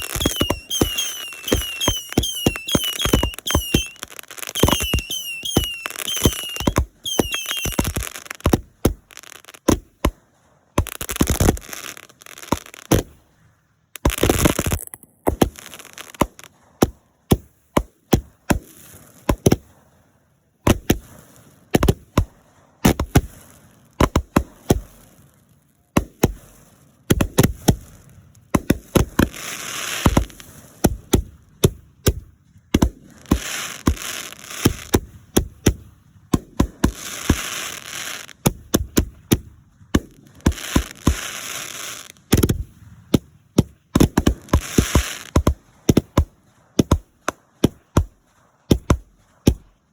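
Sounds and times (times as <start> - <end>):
fireworks bangs: 0.0 - 13.4, 14.0 - 17.6, 18.2 - 49.9
fireworks crackling: 0.0 - 49.9.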